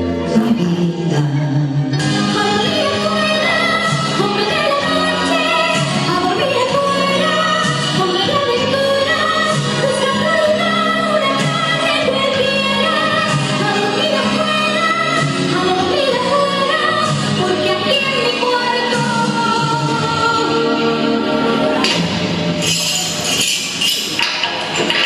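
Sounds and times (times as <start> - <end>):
song with singing and instruments: 0.0 - 25.0.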